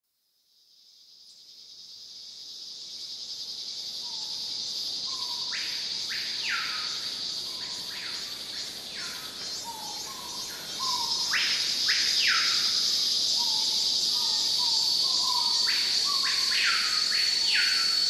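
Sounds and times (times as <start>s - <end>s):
high-pitched insect drone: 0.6s - 18.0s.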